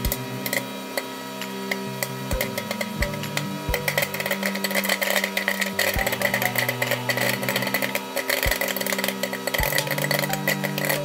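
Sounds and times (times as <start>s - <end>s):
microwave oven humming: 0.0s - 11.0s
popcorn popping: 0.0s - 11.0s.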